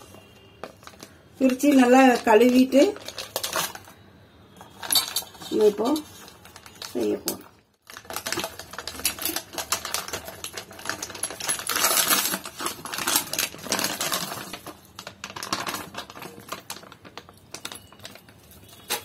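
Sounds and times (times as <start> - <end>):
plastic packaging crinkling: 0.0 - 4.0, 4.6 - 19.0.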